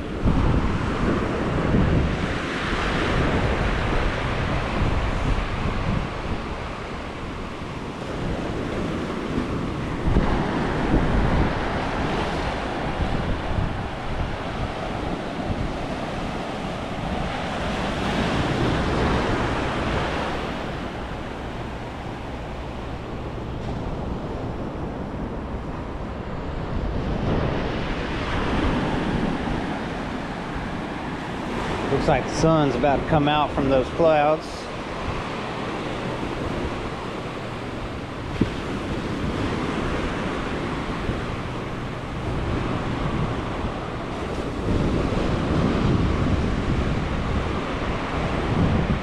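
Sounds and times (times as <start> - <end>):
ocean surf washing onto beach: 0.0 - 49.0
wind buffeting microphone: 0.0 - 49.0.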